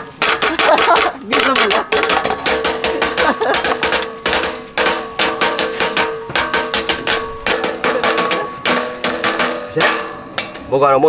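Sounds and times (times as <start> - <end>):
small hammers tapping on metal: 0.0 - 10.7.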